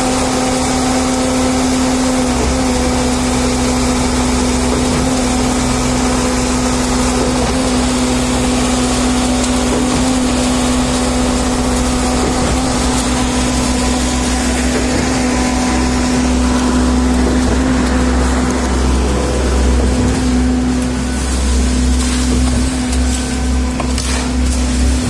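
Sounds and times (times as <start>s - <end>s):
diesel engines running steadily: 0.0s - 25.0s.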